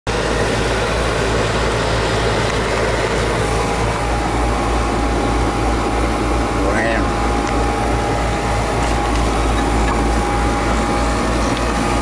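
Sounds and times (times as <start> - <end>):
heating equipment humming: 0.1 - 12.0
thin steady whine: 0.1 - 12.0.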